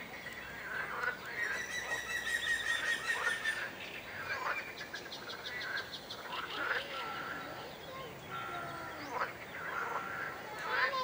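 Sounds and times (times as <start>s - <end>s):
birds singing and calling: 0.0s - 11.0s.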